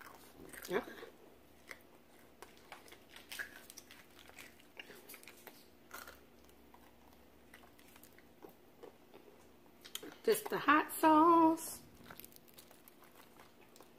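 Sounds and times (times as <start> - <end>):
chewing crispy fried chicken: 0.0 - 10.5, 11.8 - 13.9.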